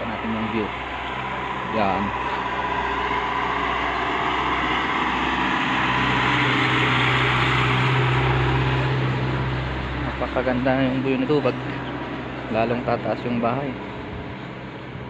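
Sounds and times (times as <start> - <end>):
truck engine driving past: 0.0 - 15.0.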